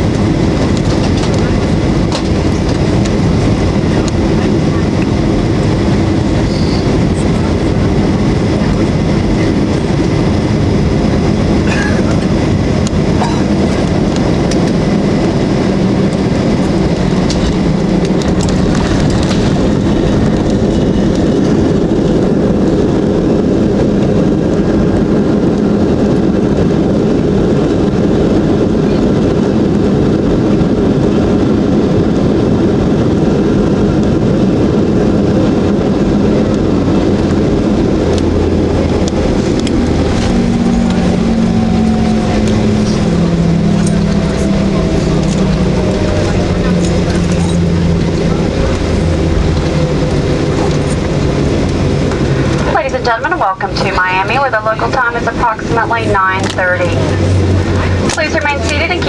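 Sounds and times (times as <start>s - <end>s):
jet cabin engine rumble: 0.0s - 59.0s.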